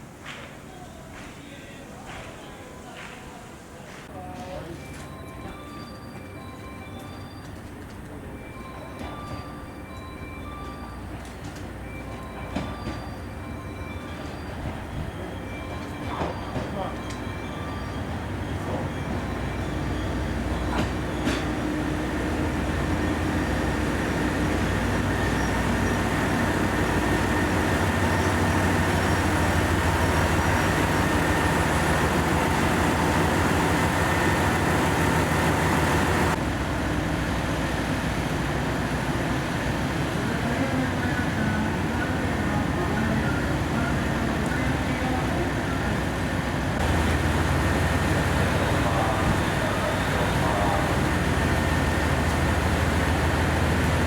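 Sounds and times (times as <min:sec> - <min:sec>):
train diesel engines humming: 0:00.0 - 0:54.0.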